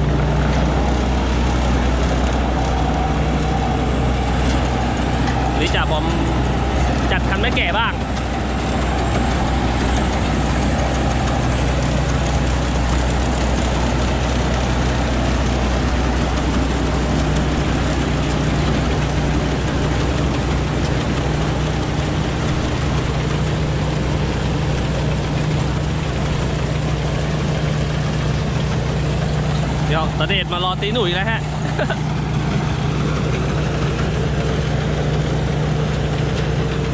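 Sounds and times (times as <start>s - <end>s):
combine harvester engine running: 0.0s - 36.9s
harvesting machinery clatter: 0.0s - 36.9s.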